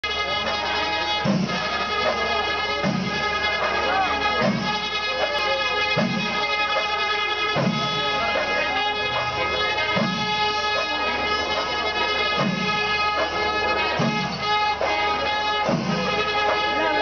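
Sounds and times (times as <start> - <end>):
low drum beat: 0.0 - 17.0
wavering melody: 0.1 - 17.0.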